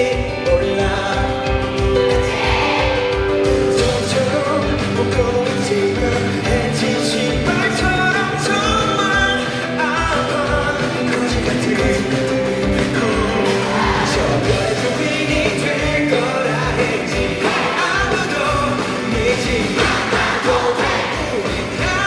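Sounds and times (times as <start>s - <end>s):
lead singer singing: 0.0s - 22.0s
pop-rock band playing: 0.0s - 22.0s
steady drum beat: 0.0s - 22.0s.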